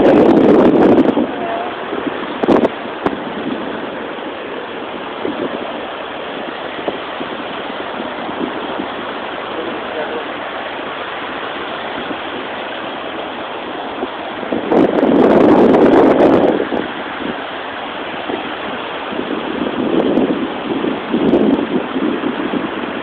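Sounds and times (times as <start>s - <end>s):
surf washing onto beach: 0.0s - 23.0s.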